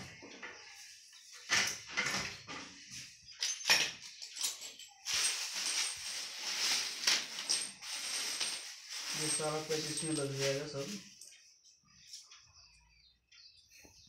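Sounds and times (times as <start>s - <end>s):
rustling and clattering: 0.0s - 11.4s.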